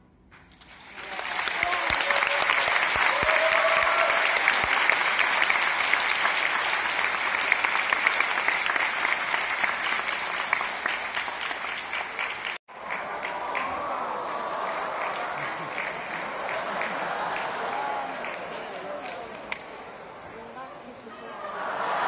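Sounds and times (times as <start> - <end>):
audience applauding: 0.6 - 22.0.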